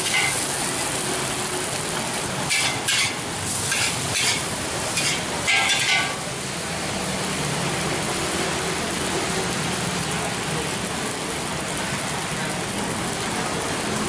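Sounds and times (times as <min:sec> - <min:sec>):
fried rice sizzling in a wok: 0:00.0 - 0:14.0.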